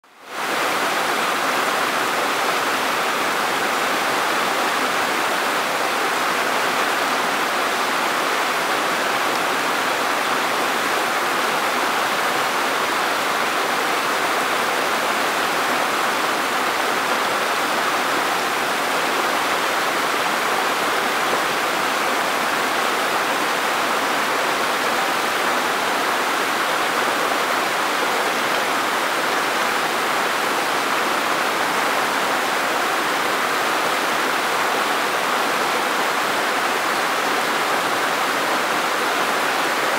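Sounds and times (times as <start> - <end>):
mountain stream splashing: 0.3 - 39.9.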